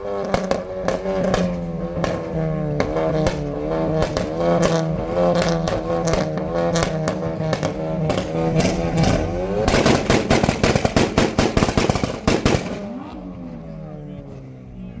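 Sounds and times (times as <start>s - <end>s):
exhaust crackling and popping: 0.0s - 15.0s
sports car engine revving: 0.0s - 15.0s.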